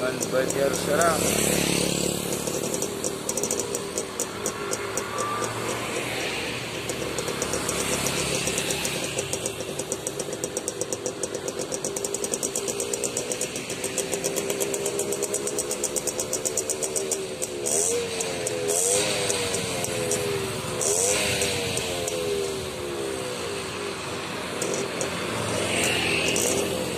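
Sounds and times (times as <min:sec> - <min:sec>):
rapid high-pitched ticking: 0:00.0 - 0:22.2.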